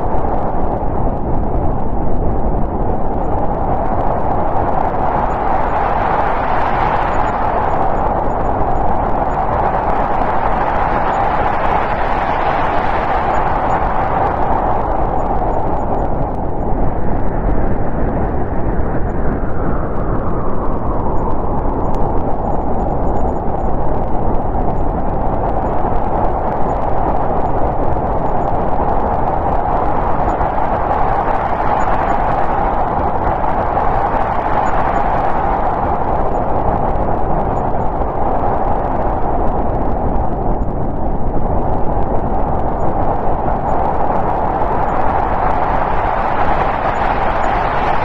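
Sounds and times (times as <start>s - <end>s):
snowstorm wind blowing: 0.0s - 48.0s.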